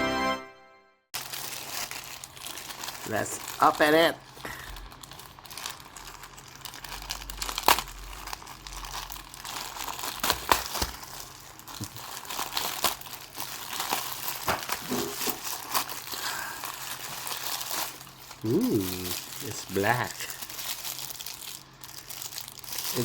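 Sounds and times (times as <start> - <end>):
packaging crinkling and crackling: 1.2 - 23.0.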